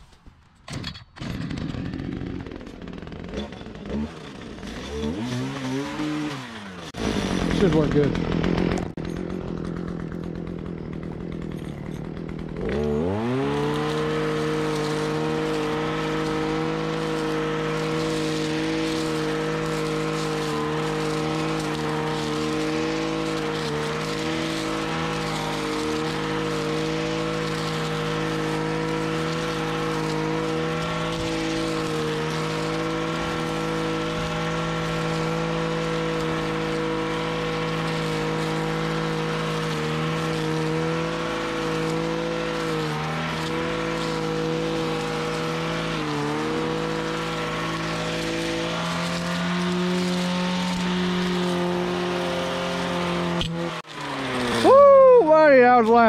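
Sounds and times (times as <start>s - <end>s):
brush trimmer engine: 0.0s - 56.0s
trimmer cutting grass: 0.0s - 56.0s.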